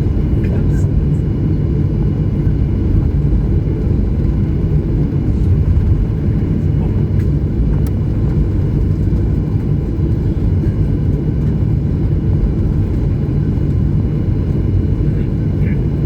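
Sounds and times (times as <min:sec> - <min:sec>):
airplane cabin rumble while taxiing: 0:00.0 - 0:16.0.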